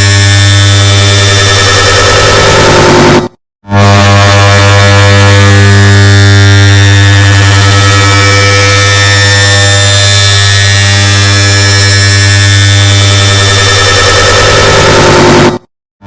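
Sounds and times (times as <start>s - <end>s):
distorted electrical hum: 0.0s - 1.8s, 3.8s - 15.6s.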